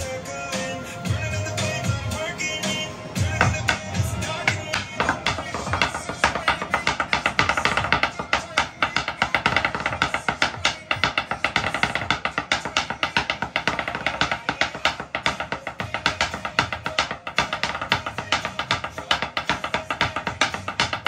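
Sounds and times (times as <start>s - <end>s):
pop-rock song with drums: 0.0s - 21.0s
sticks drumming on wooden board: 2.7s - 21.0s.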